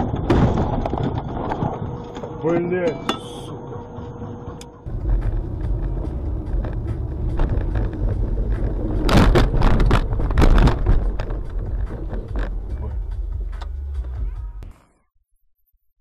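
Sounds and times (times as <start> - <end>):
car engine and road noise: 0.0 - 14.8.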